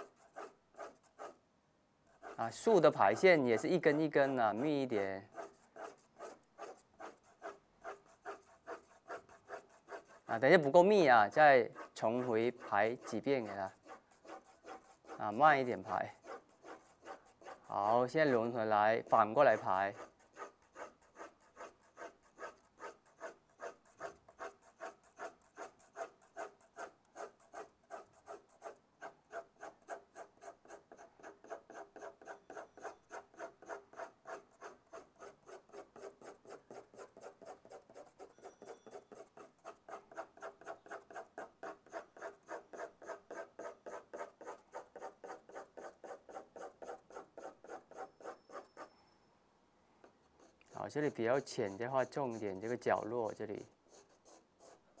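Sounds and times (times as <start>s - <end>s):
pencil scratching on paper: 0.0s - 1.4s, 2.1s - 48.9s, 50.2s - 55.0s.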